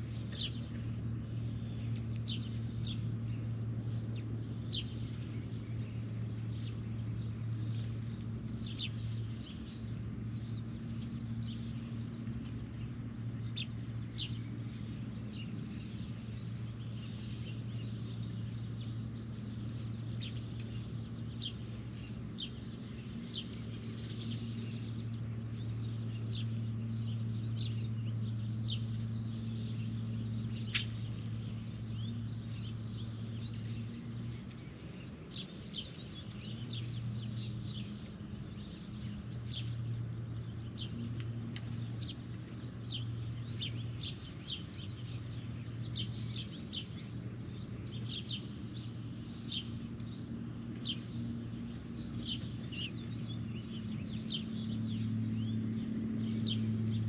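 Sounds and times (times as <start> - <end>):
birds chirping and calling: 0.0 - 57.0
steady low hum: 0.0 - 57.0.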